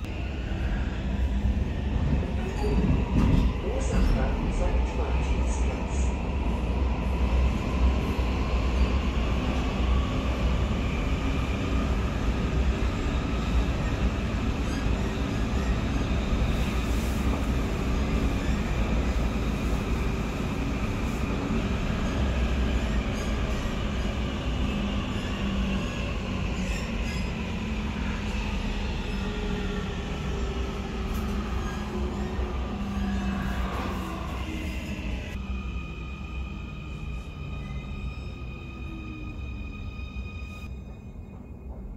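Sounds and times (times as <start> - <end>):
train rumbling through tunnel: 0.0 - 41.9.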